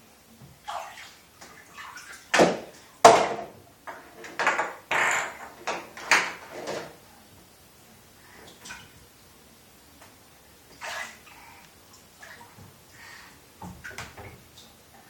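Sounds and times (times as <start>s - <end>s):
bathwater splashing: 0.5s - 7.1s, 8.1s - 9.3s, 10.1s - 14.8s.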